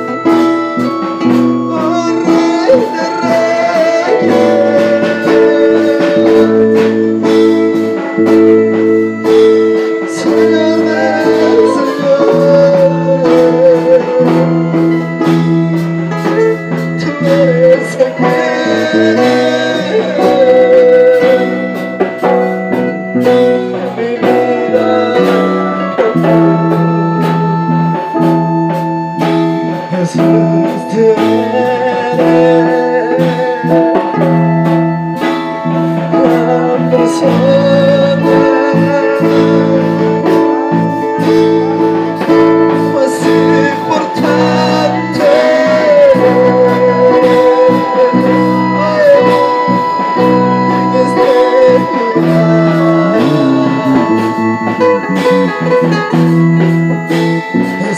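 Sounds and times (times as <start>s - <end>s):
drums keeping a beat: 0.0s - 57.9s
held chords: 0.0s - 57.9s
person singing: 0.0s - 57.9s.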